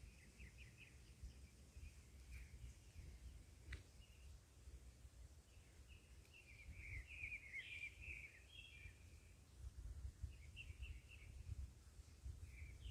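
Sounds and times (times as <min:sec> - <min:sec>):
songbird chirping: 0:00.0 - 0:12.9.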